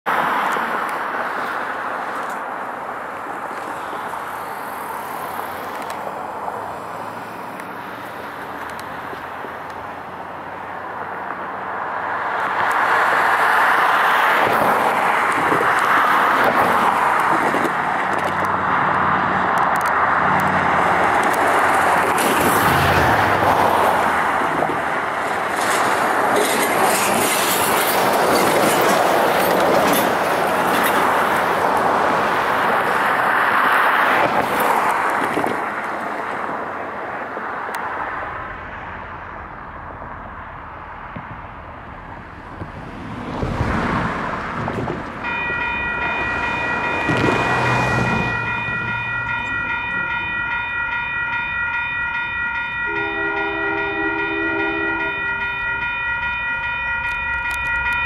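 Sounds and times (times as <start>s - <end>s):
road traffic: 0.0s - 58.0s
distant diesel freight train: 1.2s - 35.6s, 44.6s - 58.0s.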